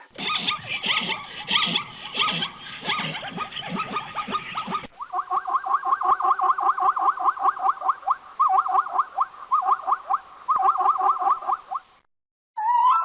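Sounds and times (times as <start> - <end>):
animal chirping rapidly: 0.0 - 11.8.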